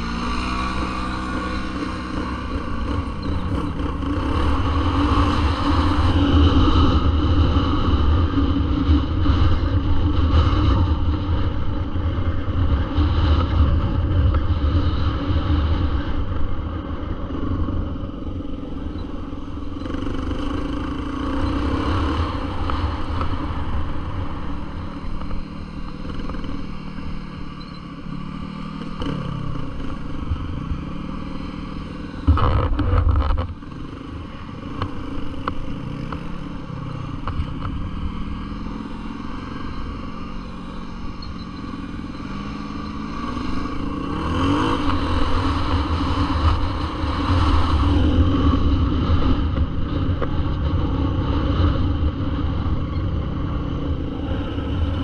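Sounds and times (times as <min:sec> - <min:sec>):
dirt bike engine revving: 0:00.0 - 0:08.2, 0:18.2 - 0:55.0.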